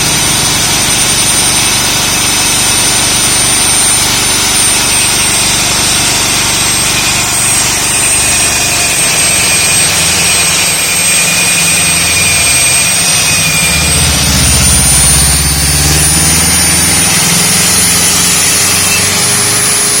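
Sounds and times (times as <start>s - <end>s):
core drilling machine whining: 0.0s - 20.0s.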